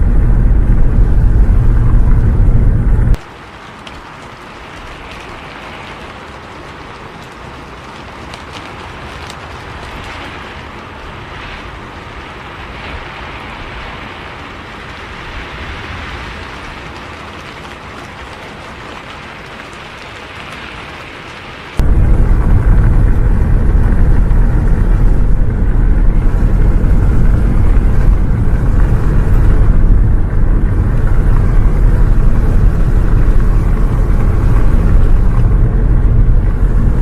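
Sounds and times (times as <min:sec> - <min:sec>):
faint ticks of raindrops: 0:00.0 - 0:37.0
steady rain hiss: 0:00.0 - 0:37.0.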